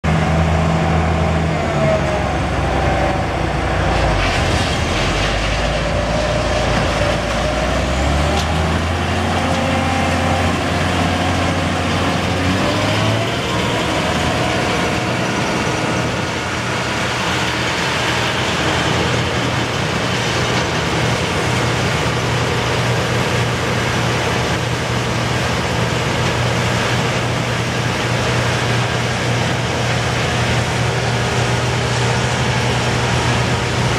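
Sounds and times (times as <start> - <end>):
combine harvester running: 0.0 - 33.9.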